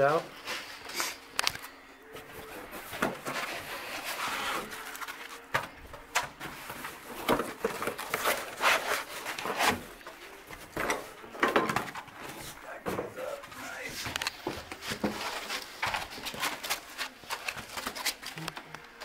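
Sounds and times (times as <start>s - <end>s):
foam and cardboard handling: 2.1s - 19.0s.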